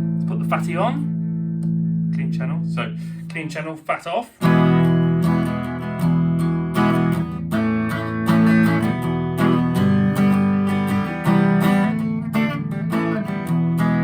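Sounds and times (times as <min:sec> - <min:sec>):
electric guitar chords: 0:00.0 - 0:03.3, 0:04.4 - 0:14.0.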